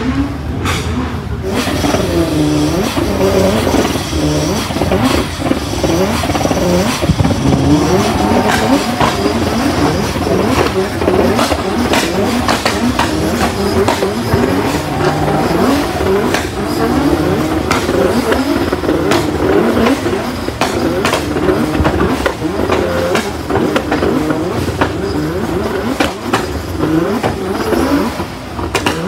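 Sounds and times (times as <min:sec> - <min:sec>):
car engines revving: 0:00.0 - 0:29.0
exhaust pops and bangs: 0:00.6 - 0:29.0.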